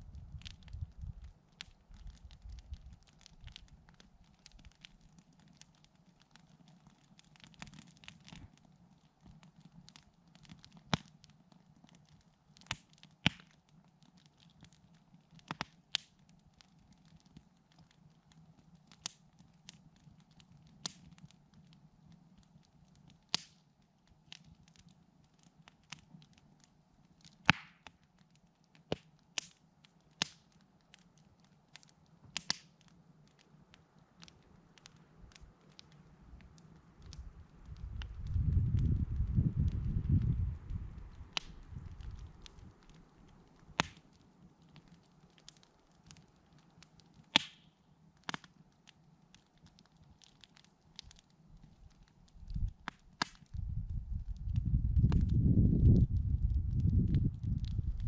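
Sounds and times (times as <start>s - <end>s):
burning wood snapping and popping: 0.0s - 58.0s
campfire crackling: 0.0s - 58.0s.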